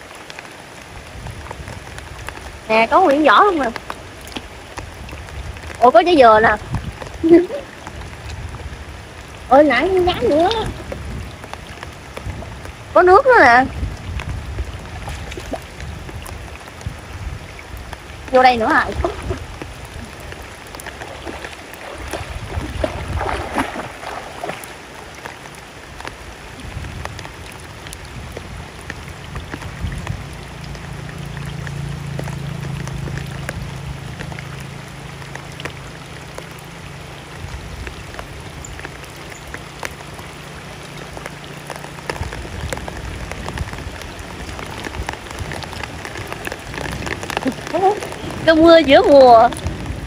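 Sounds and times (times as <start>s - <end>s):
rain falling on water: 0.0s - 50.0s.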